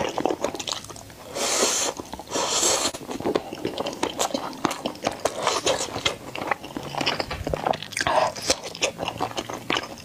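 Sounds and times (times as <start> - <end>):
wet chewing smacks and clicks: 0.0 - 1.2, 2.9 - 10.0.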